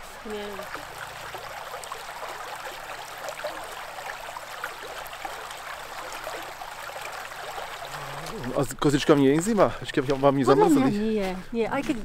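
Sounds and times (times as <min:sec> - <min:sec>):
small water splashes: 0:00.0 - 0:10.5
creek babbling: 0:00.0 - 0:11.3.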